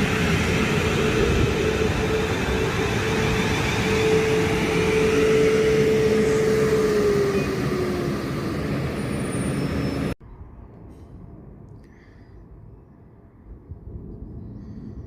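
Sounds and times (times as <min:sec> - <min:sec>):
electric train rumble and whine: 0:00.0 - 0:13.9.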